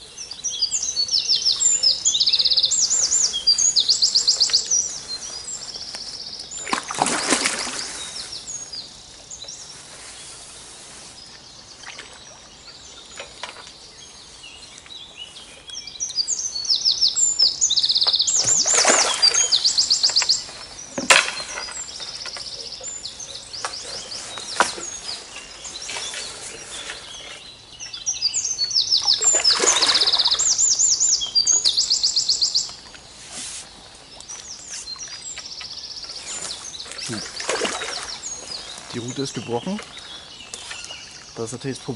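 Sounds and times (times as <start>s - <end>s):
birds calling faintly: 0.0s - 41.9s
songbird singing trills: 0.0s - 41.9s.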